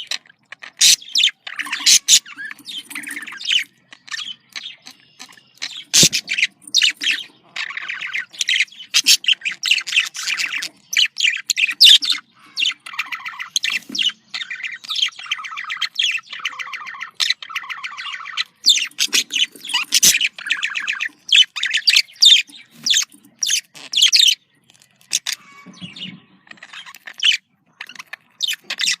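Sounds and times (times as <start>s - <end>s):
budgerigars chattering and warbling: 0.0s - 29.0s.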